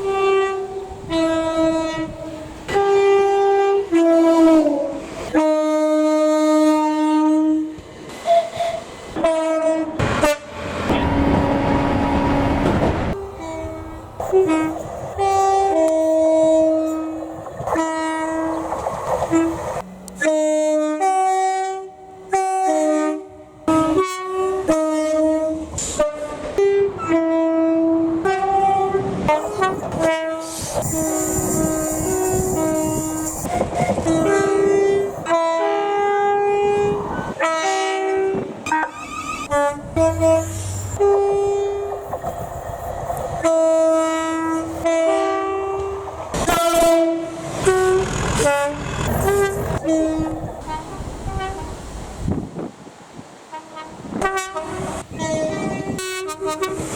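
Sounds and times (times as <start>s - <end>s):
train air horns: 0.0s - 42.0s, 43.4s - 51.9s, 53.4s - 56.9s
train running past: 0.0s - 56.9s.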